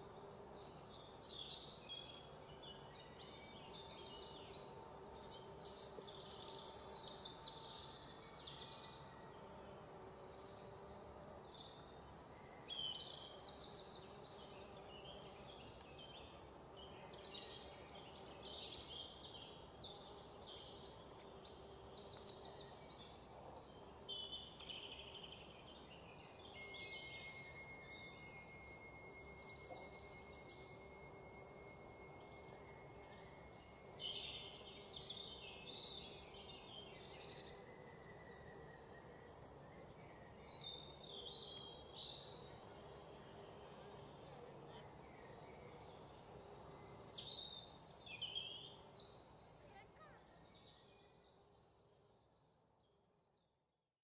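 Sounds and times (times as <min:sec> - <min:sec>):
small birds chirping: 0:00.0 - 0:52.3.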